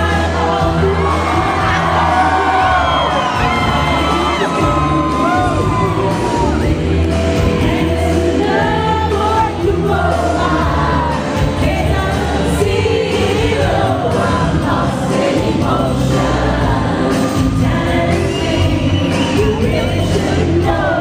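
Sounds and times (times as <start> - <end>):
person singing: 0.0 - 21.0
pop song over loudspeakers: 0.0 - 21.0.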